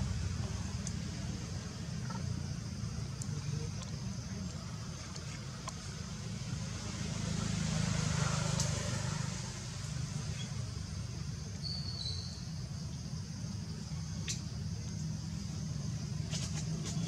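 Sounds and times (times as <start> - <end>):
low outdoor rumble with hiss: 0.0 - 17.0.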